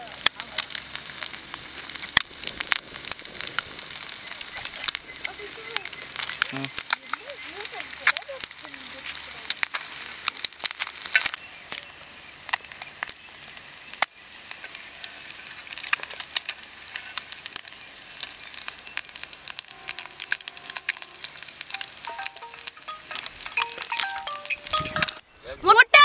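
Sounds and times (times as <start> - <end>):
eggs sizzling in oil: 0.0 - 25.2
oil crackling and popping: 0.0 - 25.2.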